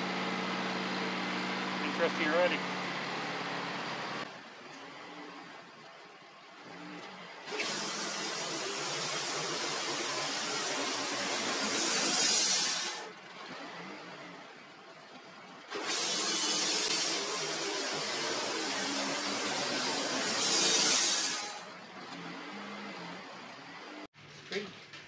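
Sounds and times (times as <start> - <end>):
band sawmill running: 0.0 - 5.4, 6.8 - 14.4, 15.6 - 24.1.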